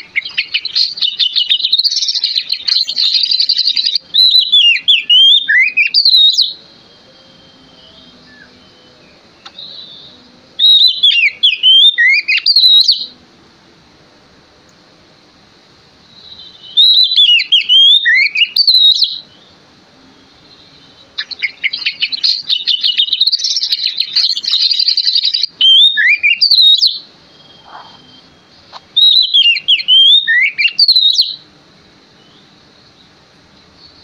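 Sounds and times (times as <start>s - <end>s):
songbird whistling song: 0.0s - 13.2s, 16.0s - 31.5s, 32.1s - 34.0s.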